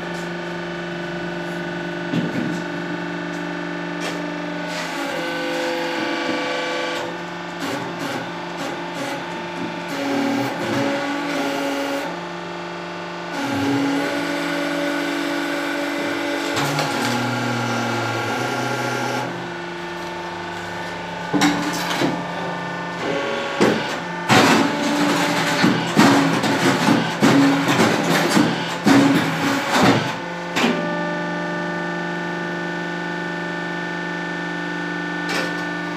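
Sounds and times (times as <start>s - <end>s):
hydraulic press humming: 0.0s - 32.6s.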